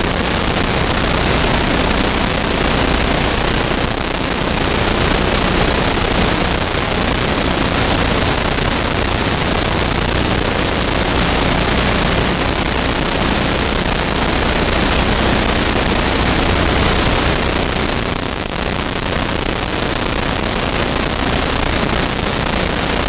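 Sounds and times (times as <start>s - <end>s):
loud static hiss: 0.0s - 23.0s.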